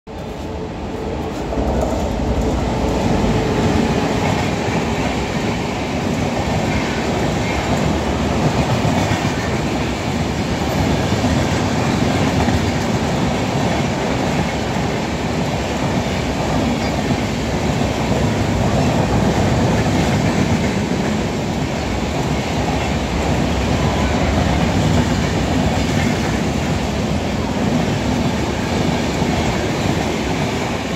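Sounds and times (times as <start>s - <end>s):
passenger train passing: 0.1s - 30.9s
train wheels rumbling on rails: 0.1s - 30.9s.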